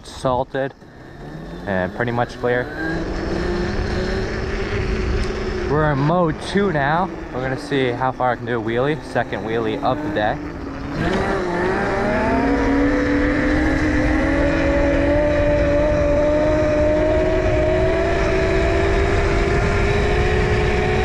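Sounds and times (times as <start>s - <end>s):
wind and road noise: 0.0s - 21.0s
electric motor whining: 0.8s - 21.0s.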